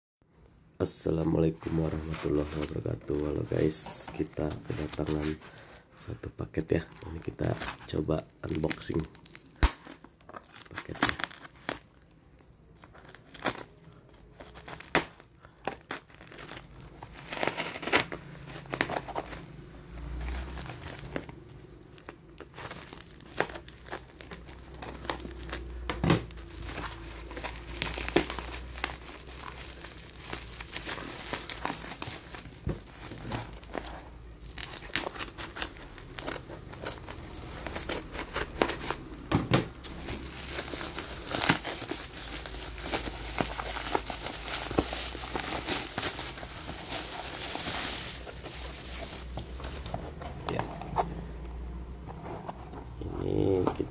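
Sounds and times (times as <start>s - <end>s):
packaging crinkling and tearing: 1.7s - 5.9s, 6.6s - 51.8s.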